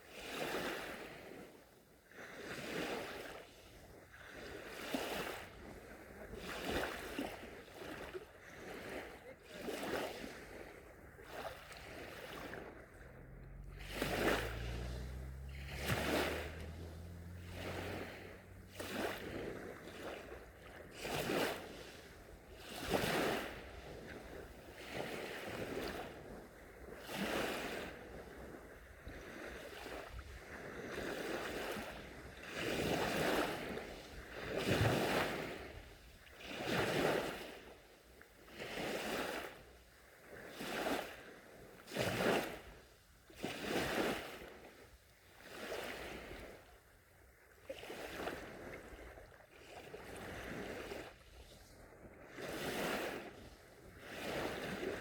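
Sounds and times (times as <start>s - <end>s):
small waves washing onto beach: 0.0s - 55.0s.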